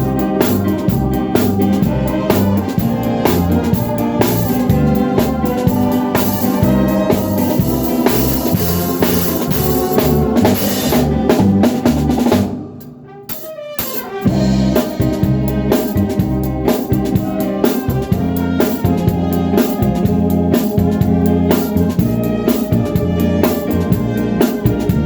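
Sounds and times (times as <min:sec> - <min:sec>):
drum kit beat: 0:00.0 - 0:25.0
live band music: 0:00.0 - 0:25.0.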